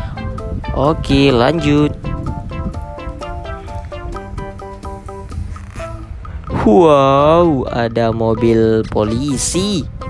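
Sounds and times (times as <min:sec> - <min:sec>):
plucked-string melody: 0:00.0 - 0:10.0.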